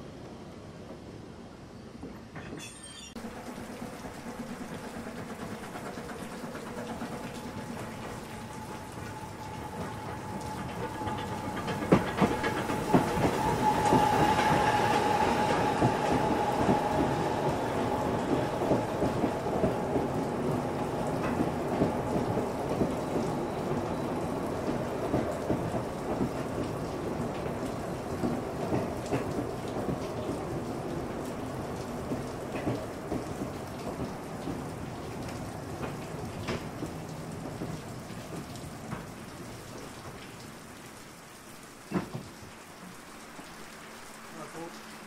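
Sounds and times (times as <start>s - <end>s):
train wheels rumbling on rails: 0.0s - 41.0s, 41.8s - 43.0s.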